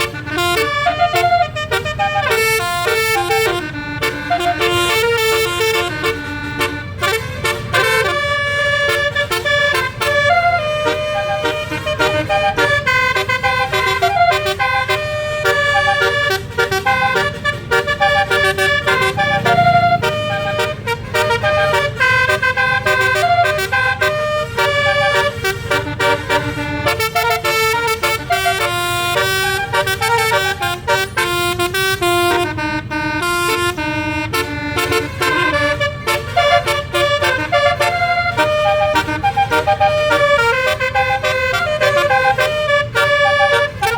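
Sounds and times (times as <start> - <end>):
bus air horn melody: 0.0 - 43.9.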